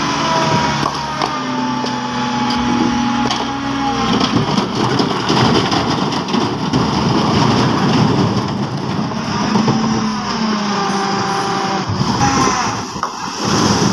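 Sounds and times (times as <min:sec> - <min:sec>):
stones pouring off dump truck: 0:00.0 - 0:13.9.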